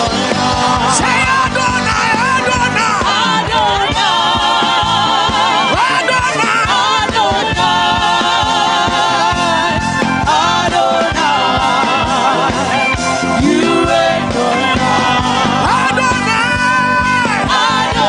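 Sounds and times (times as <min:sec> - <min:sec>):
gospel singing over a band: 0:00.0 - 0:18.0.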